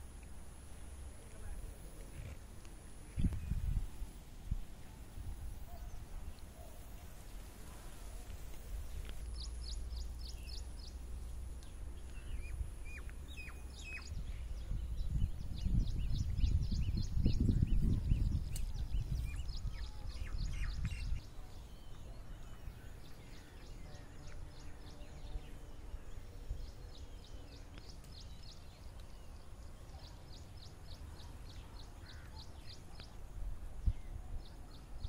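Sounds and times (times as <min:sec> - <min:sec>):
bird chirping: 0:05.6 - 0:35.0.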